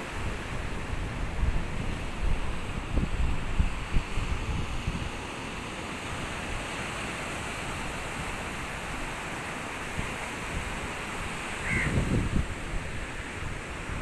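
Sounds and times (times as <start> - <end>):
sea surf breaking on beach: 0.0 - 14.0
wind on microphone: 0.0 - 14.0.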